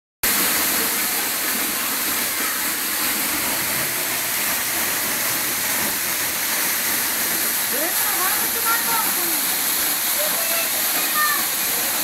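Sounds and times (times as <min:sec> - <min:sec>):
stream rushing over rocks: 0:00.2 - 0:12.0.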